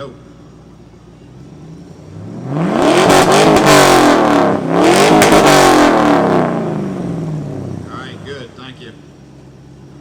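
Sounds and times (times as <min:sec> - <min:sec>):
car engine revving: 0:00.6 - 0:10.0.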